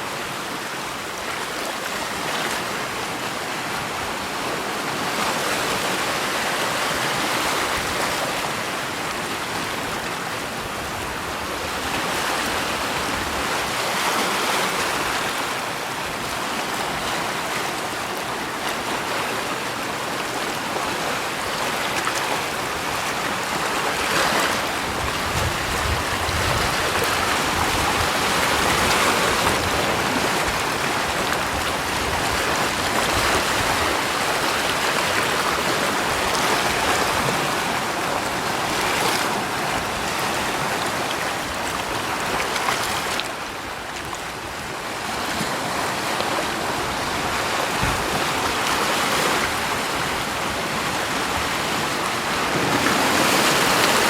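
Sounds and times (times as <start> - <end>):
waves washing in: 0.0 - 54.0.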